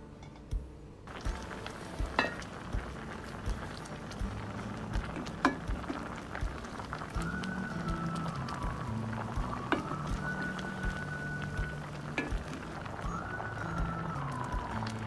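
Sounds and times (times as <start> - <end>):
water boiling in a pot: 1.1 - 15.0.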